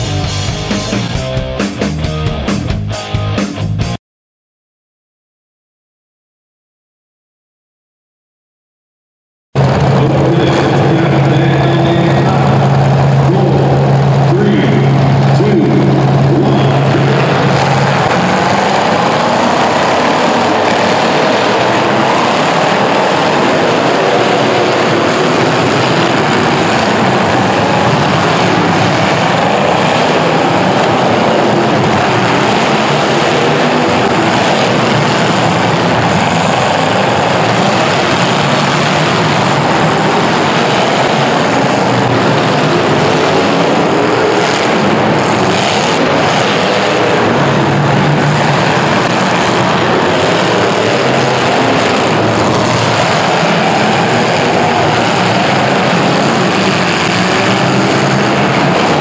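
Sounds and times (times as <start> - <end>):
car engines revving: 0.0 - 3.8, 9.6 - 59.0.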